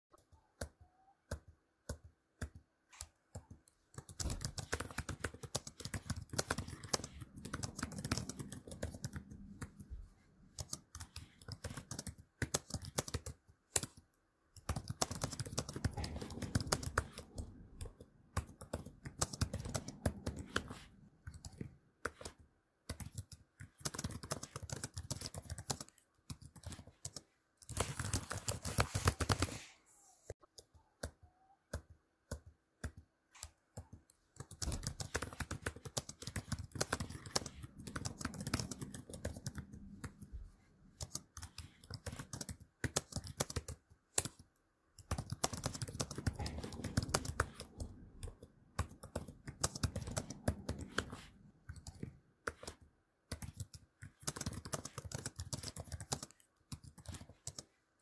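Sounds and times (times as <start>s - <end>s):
laptop keyboard typing: 0.1s - 58.0s.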